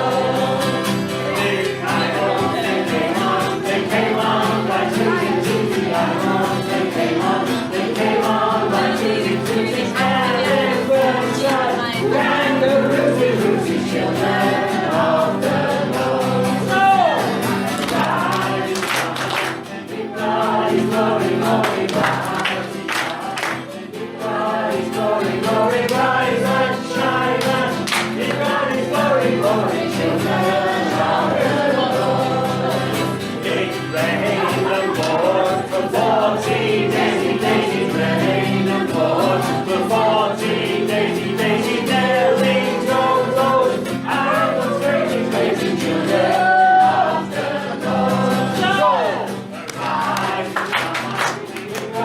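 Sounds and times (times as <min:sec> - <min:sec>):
accompanying music: 0:00.0 - 0:52.0
group singing a christian song: 0:00.0 - 0:52.0.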